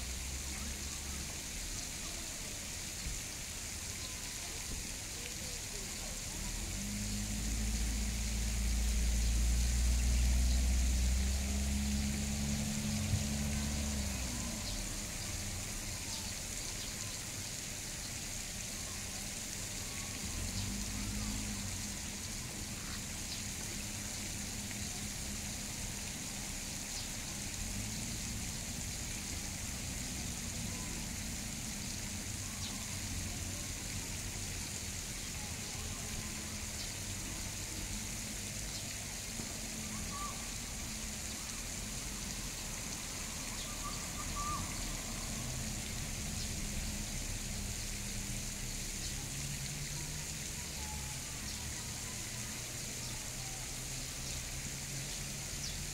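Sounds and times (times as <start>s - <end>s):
high hiss: 0.0s - 55.9s
water trickling: 0.0s - 55.9s.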